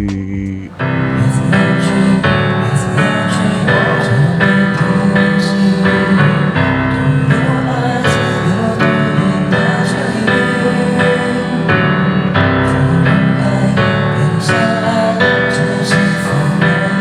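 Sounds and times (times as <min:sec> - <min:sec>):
piano keyboard chords: 0:00.5 - 0:17.0.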